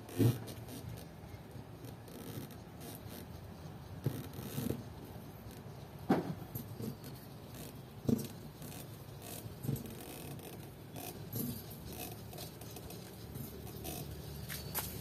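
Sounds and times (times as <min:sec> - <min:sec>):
rubber grip rubbing: 0:01.8 - 0:15.0.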